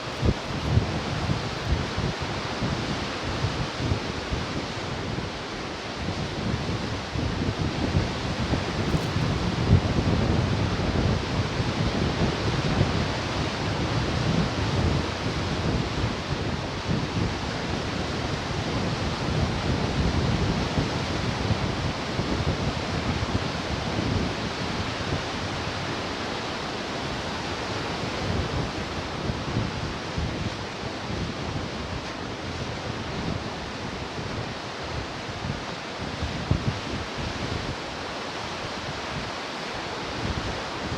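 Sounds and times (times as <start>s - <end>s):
wind buffeting microphone: 0.0s - 37.8s
ocean surf washing onto shore: 0.0s - 40.9s.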